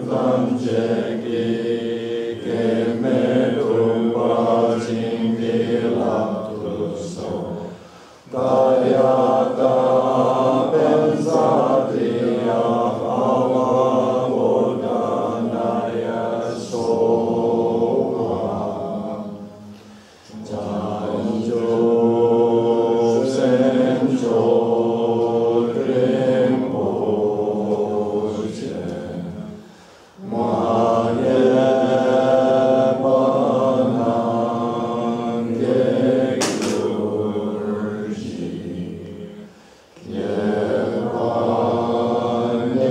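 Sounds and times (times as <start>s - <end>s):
prayer chant: 0.0s - 42.9s.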